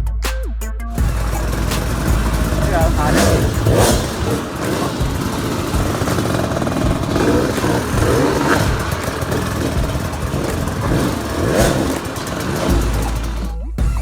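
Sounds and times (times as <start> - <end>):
motorcycle engine revving: 1.0 - 14.0.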